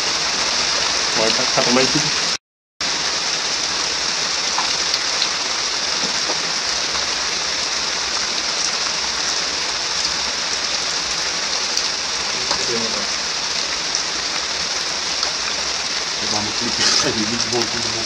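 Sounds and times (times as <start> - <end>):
heavy rain on rocks and leaves: 0.0 - 18.0.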